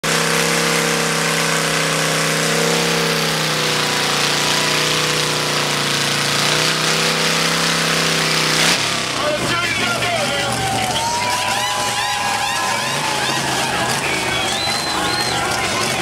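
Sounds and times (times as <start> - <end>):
motorcycle engine at high revs: 0.0 - 10.4, 12.6 - 16.0.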